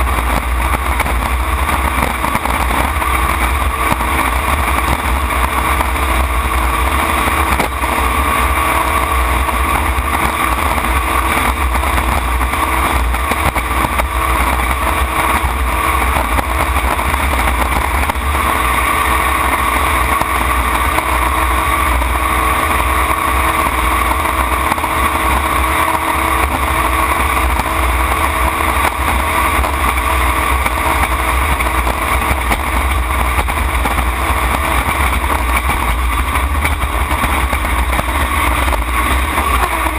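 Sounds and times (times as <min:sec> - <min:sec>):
boat engine at high power: 0:00.0 - 0:39.9
rushing wind and water: 0:00.0 - 0:39.9.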